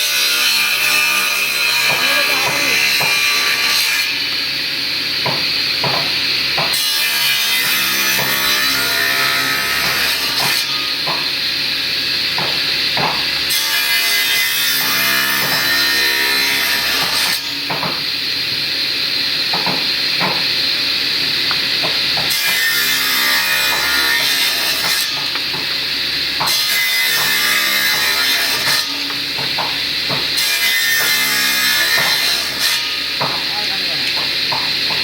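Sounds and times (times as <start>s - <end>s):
power saw cutting wood: 0.0s - 4.6s, 5.2s - 18.2s, 19.0s - 35.0s.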